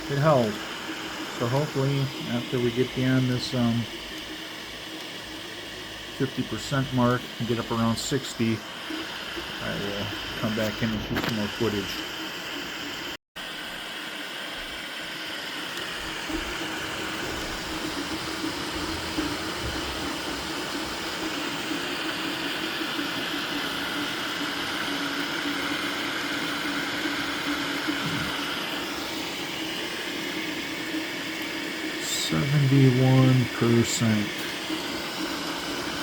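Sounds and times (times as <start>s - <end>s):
cooling fans hissing: 0.0s - 36.0s
stepper motors humming: 0.0s - 36.0s.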